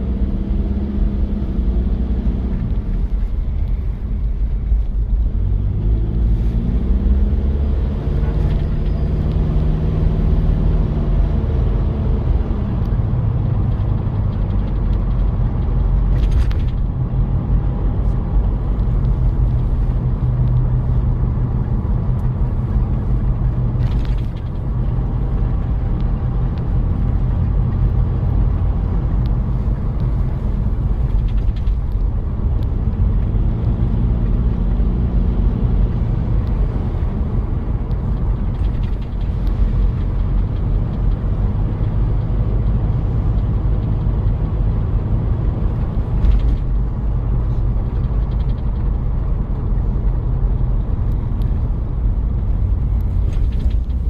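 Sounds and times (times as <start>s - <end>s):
diesel engine pulling: 0.0s - 54.0s
road rumble: 0.0s - 54.0s.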